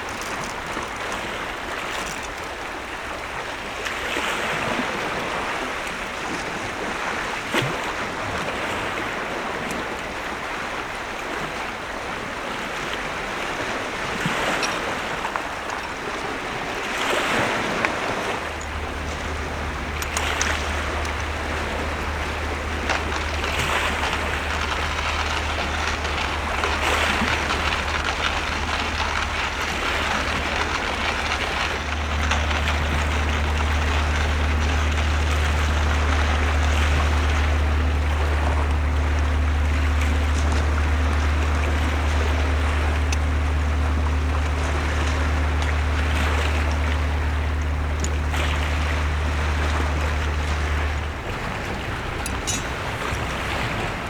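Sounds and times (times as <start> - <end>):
constant noisy wash: 0.0 - 54.0
low engine hum: 0.0 - 54.0.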